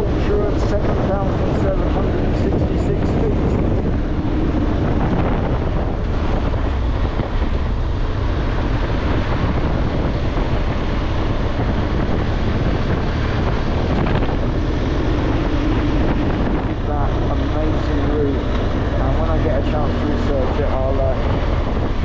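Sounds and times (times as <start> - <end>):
motorcycle engine: 0.0 - 22.0
road noise: 0.0 - 22.0
wind rushing over microphone: 0.0 - 22.0.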